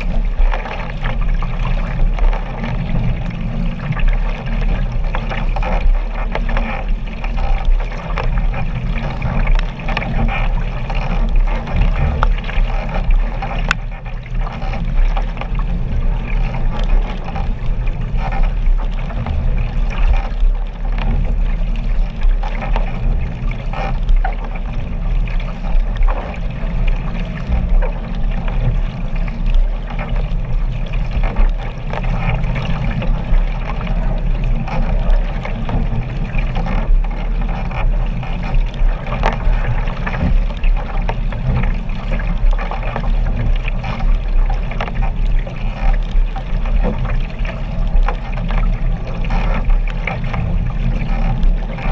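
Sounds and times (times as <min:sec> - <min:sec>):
steady low rumble: 0:00.0 - 0:51.9
water splashing and sloshing: 0:00.0 - 0:51.9.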